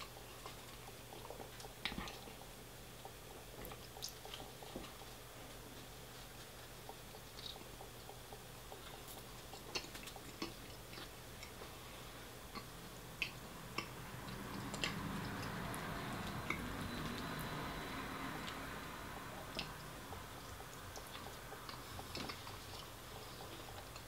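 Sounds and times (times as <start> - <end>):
close chewing and mouth sounds: 0.0 - 24.0.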